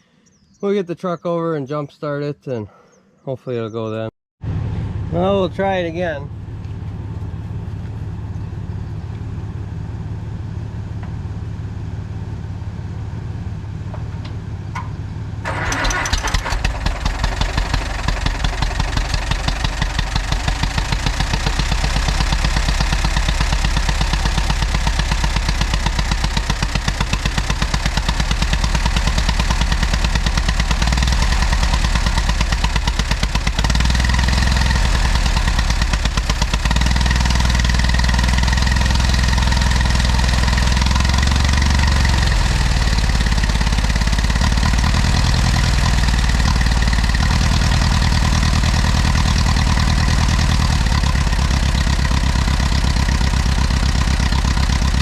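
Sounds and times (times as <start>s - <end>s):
low steady engine hum: 3.5s - 55.0s
tractor engine starting and running: 3.9s - 55.0s.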